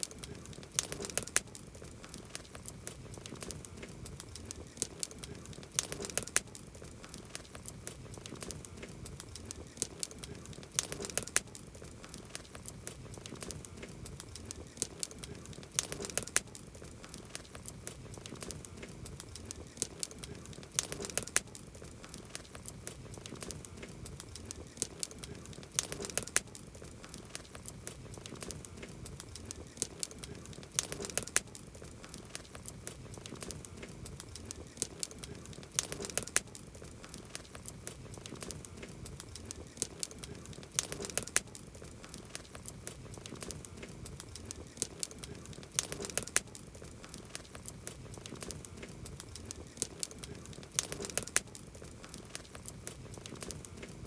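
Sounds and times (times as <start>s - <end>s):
campfire crackling and popping: 0.0s - 54.0s
low rumble of flame: 0.0s - 54.0s.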